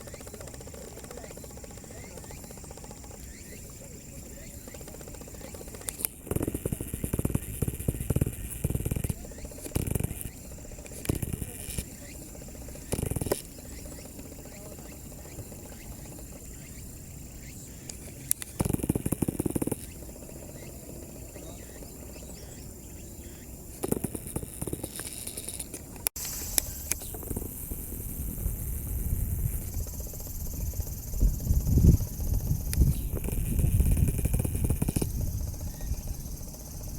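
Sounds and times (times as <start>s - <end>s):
high insect-like trill: 0.0s - 36.9s.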